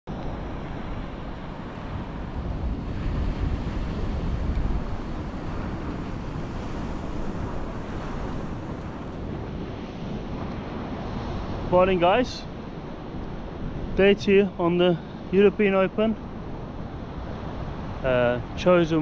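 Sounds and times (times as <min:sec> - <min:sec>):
waves breaking on shore: 0:00.1 - 0:19.0
wind rumbling on microphone: 0:00.1 - 0:19.0.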